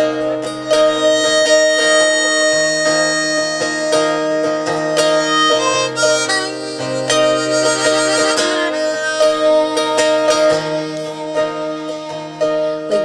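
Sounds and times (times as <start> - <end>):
acoustic folk band playing: 0.0 - 13.0
harmonica melody: 0.0 - 13.0.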